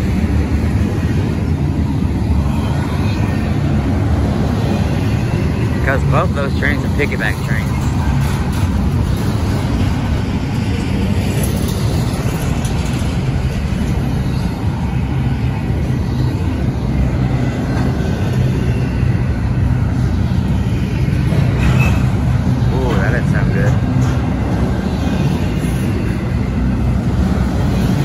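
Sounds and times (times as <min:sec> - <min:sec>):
train steel wheels on rails: 0:00.0 - 0:28.0.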